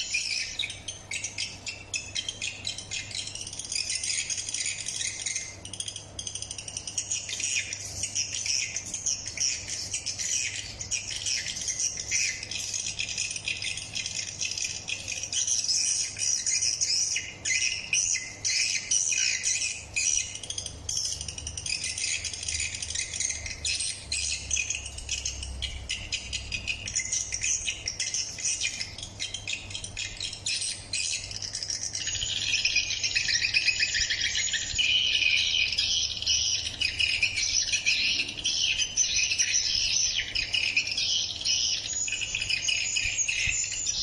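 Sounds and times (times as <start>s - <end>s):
bird calls through speaker: 0.0s - 44.0s.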